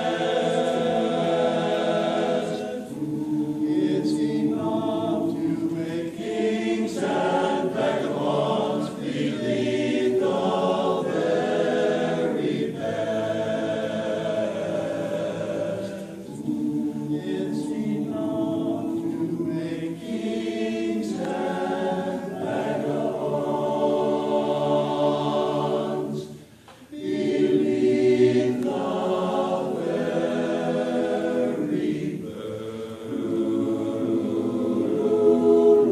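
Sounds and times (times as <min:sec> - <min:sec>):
group of voices singing: 0:00.0 - 0:35.9.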